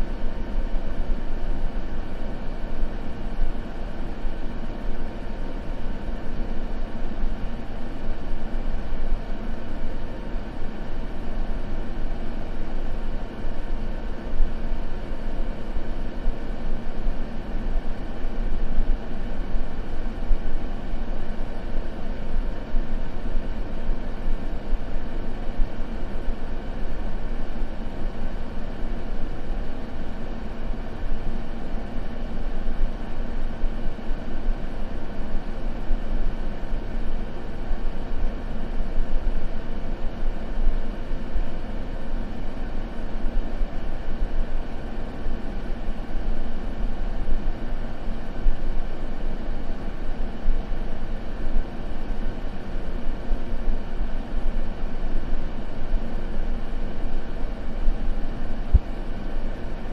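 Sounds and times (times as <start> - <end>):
deep rumbly white noise: 0.0 - 59.9.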